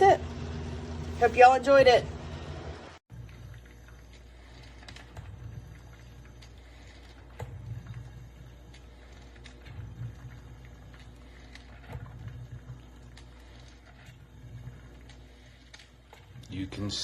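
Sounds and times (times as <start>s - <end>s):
coffee percolator bubbling: 3.1s - 17.0s.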